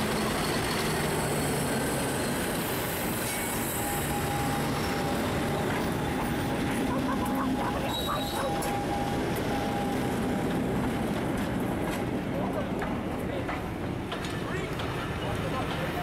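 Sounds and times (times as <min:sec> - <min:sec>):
diesel locomotive engines: 0:00.0 - 0:16.0
train wheels on rail: 0:00.0 - 0:16.0.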